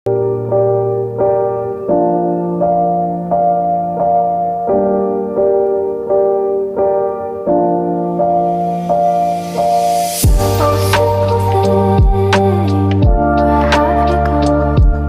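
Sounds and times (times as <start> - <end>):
slow piano notes and chords: 0.1 - 15.0.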